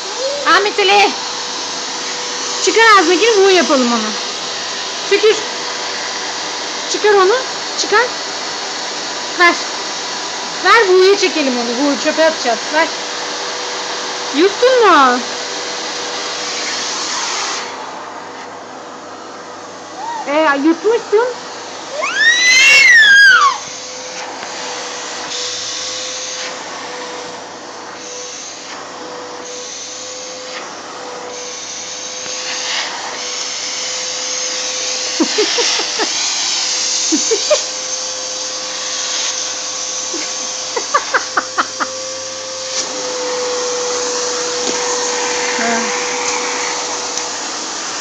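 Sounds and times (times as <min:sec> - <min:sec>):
vacuum cleaner whining: 0:00.0 - 0:48.0.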